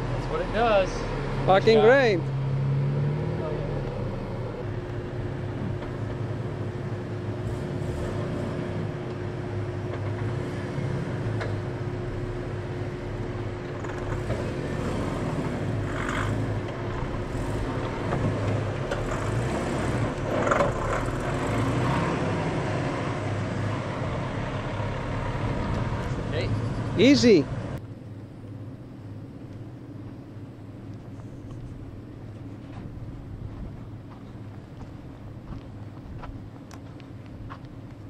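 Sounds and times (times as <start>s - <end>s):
truck engine droning under load: 0.0s - 37.3s.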